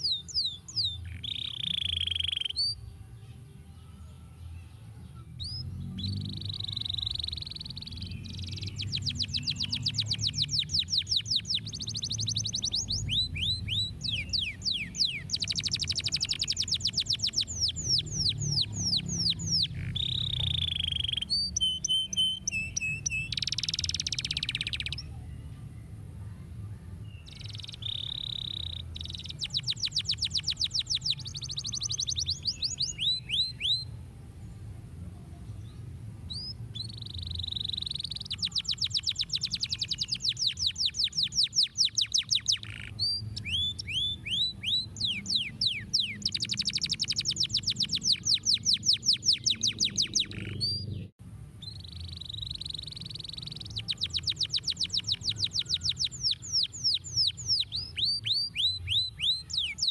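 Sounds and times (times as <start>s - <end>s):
canary singing trills: 0.0s - 2.9s, 3.9s - 25.4s, 27.0s - 34.0s, 35.6s - 59.9s.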